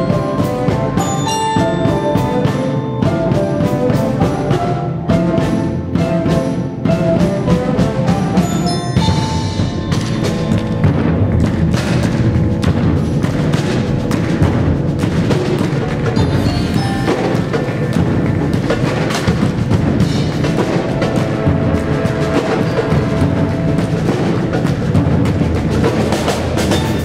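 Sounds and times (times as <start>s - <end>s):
cello and wind instruments: 0.0s - 27.0s
percussion ensemble playing: 0.0s - 27.0s.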